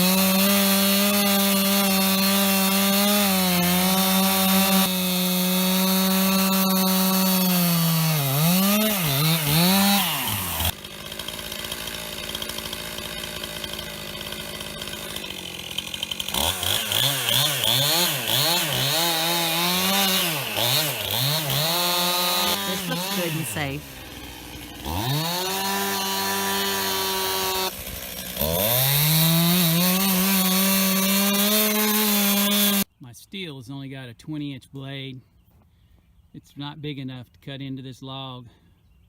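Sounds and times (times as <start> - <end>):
chainsaw cutting log: 0.0 - 32.9.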